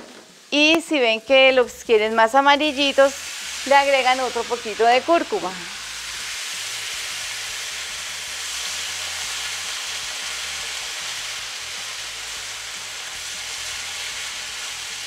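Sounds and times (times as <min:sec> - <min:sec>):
rice sizzling in frying pan: 0:00.0 - 0:15.0.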